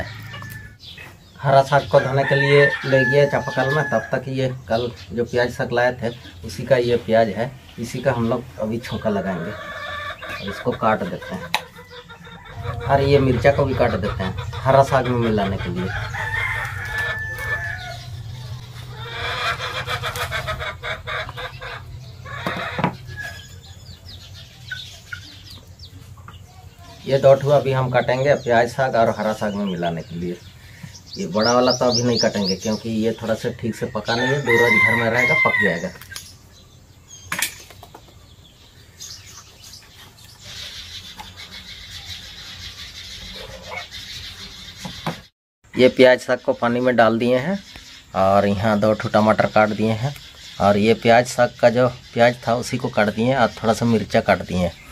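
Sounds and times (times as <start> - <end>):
birds chirping: 0.0 - 54.9
chickens clucking: 0.0 - 54.9.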